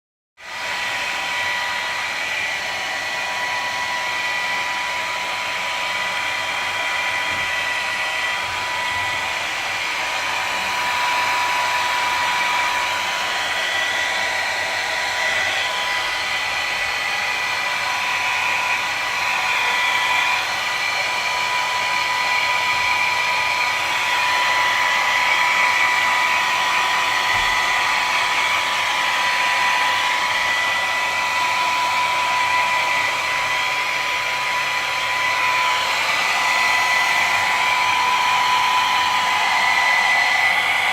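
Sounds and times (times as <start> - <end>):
hair dryer running: 0.4 - 40.9.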